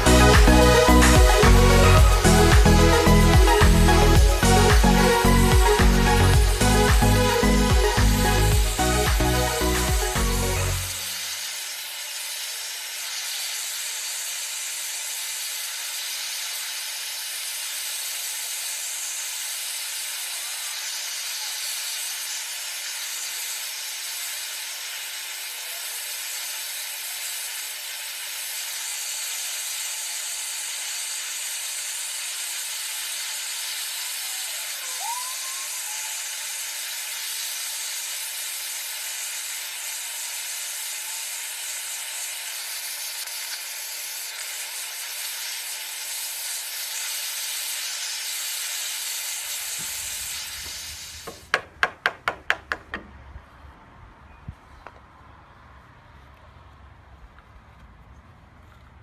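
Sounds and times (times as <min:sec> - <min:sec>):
blowtorch flame hissing: 0:00.0 - 0:51.8.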